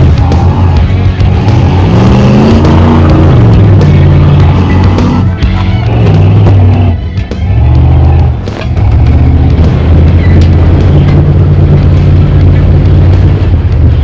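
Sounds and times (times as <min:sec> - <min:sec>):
engine running hard: 0:00.0 - 0:14.0.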